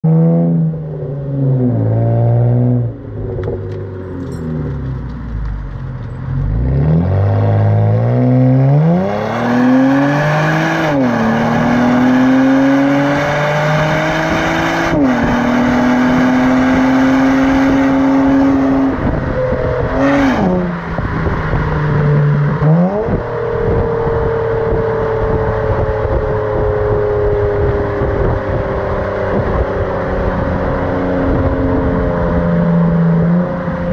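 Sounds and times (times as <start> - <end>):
car engine accelerating: 0.0 - 33.9.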